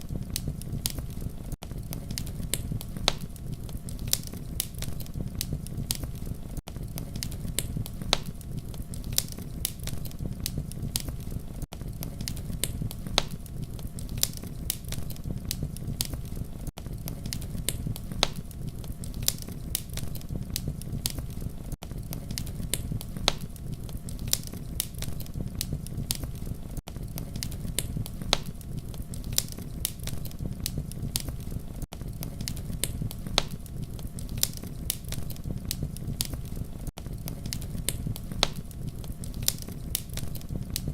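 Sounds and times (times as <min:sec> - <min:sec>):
campfire crackling: 0:00.0 - 0:40.9
fire pops and snaps: 0:00.0 - 0:40.9
low rumble of burning: 0:00.0 - 0:40.9.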